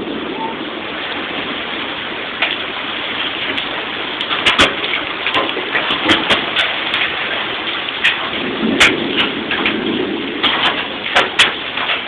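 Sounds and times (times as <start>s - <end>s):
heavy rain hissing: 0.0s - 12.0s
hailstones striking hard surfaces: 2.3s - 12.0s.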